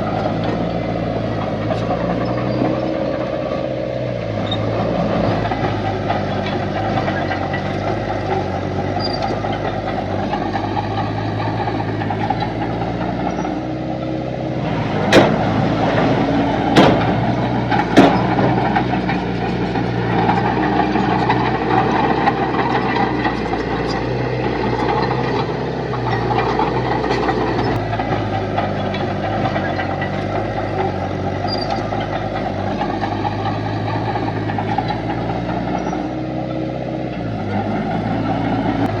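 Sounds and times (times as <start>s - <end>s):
heavy diesel machinery running: 0.0s - 39.0s.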